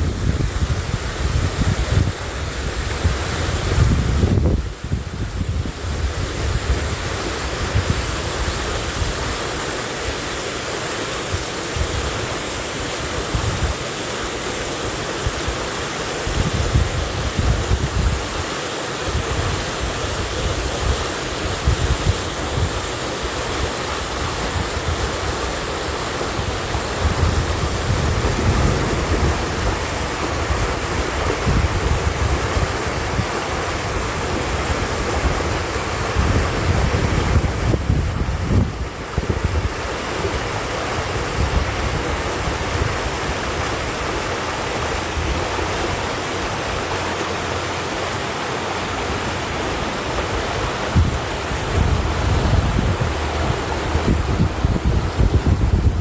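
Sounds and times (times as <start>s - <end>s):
wind buffeting microphone: 0.0s - 9.4s, 16.2s - 18.4s, 19.1s - 56.0s
mountain stream rushing: 0.0s - 56.0s.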